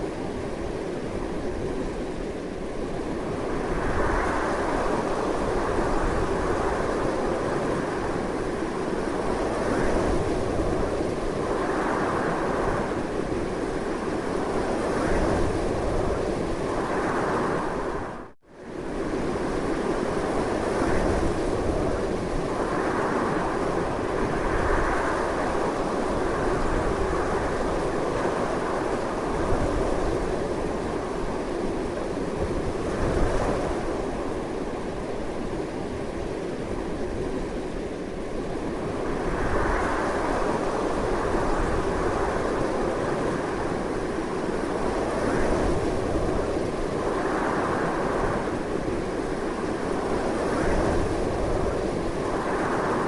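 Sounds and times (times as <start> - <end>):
strong wind blowing in gusts: 0.0 - 53.0.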